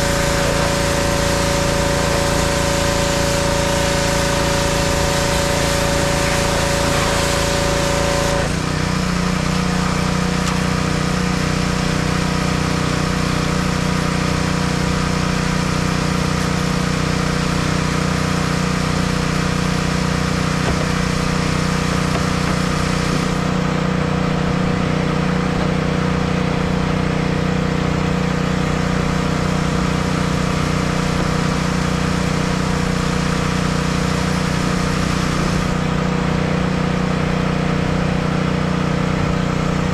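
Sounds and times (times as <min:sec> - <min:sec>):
engine humming: 0:00.0 - 0:12.4, 0:14.9 - 0:39.9
pressure washer spray hissing: 0:00.0 - 0:37.5.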